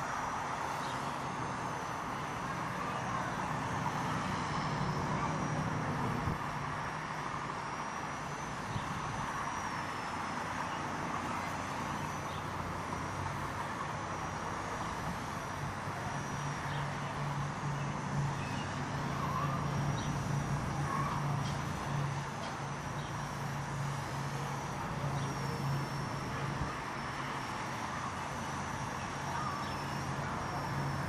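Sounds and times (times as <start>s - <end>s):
lower hum: 0.0s - 31.0s
rc helicopter rotor whine: 0.0s - 31.0s.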